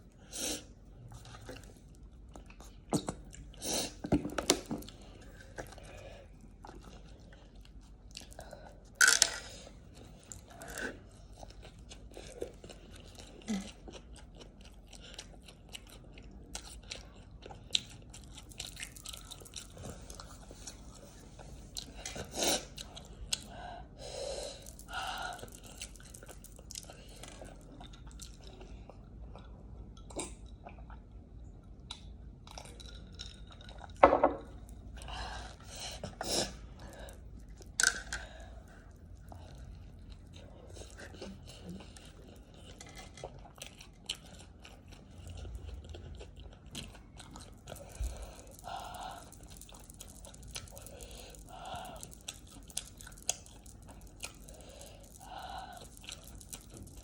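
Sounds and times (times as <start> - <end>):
chewing with wet mouth clicks: 1.0 - 23.5, 24.6 - 57.0.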